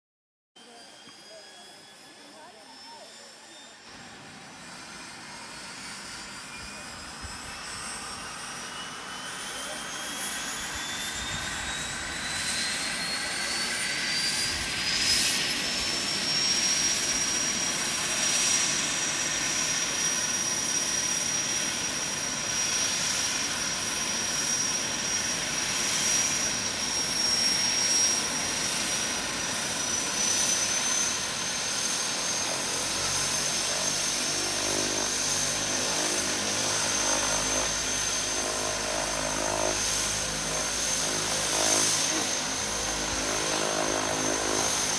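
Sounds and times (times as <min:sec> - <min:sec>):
turbine engine whine: 0:00.6 - 0:44.9.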